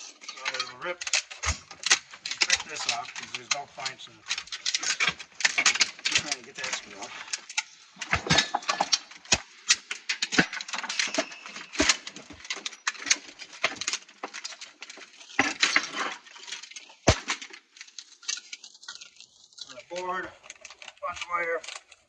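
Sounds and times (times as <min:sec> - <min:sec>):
loud cracks and knocks: 0:00.0 - 0:22.0
plastic and metal parts clattering: 0:00.0 - 0:22.0.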